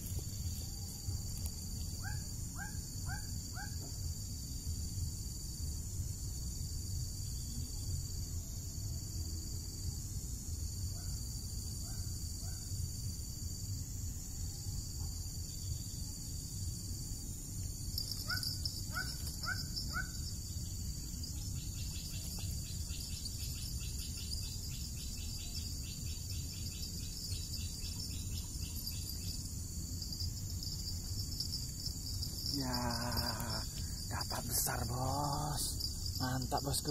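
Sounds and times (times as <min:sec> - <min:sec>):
insect chorus: 0:00.0 - 0:36.9
rapid pulsing insect trill: 0:00.0 - 0:36.9.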